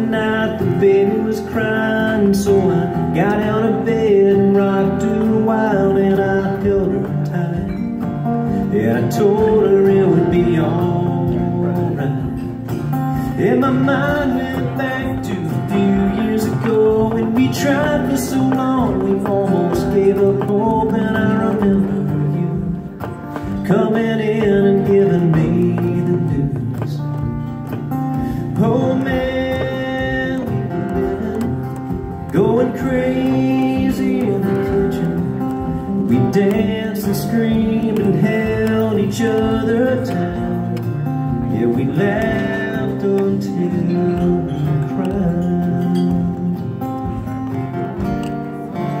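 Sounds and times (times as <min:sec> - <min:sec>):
acoustic guitar strumming: 0:00.0 - 0:49.0
man singing: 0:00.0 - 0:49.0.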